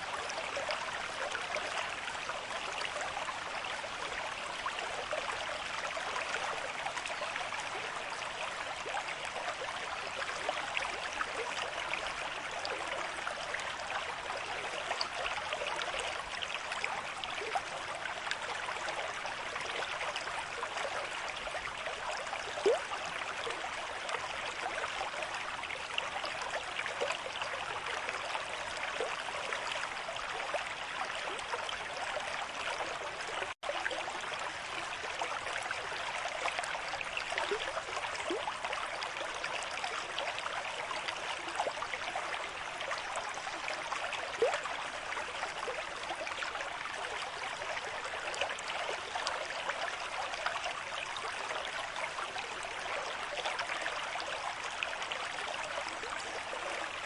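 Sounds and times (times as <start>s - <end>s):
stream water rushing and gurgling: 0.0s - 57.0s.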